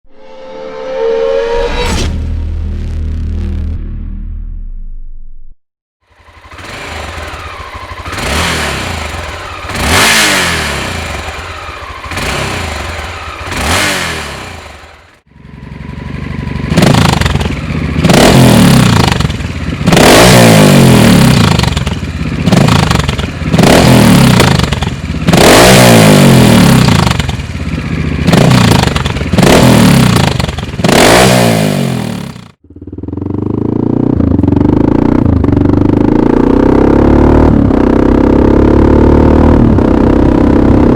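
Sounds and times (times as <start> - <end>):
motorcycle engine revving: 6.0 - 40.9.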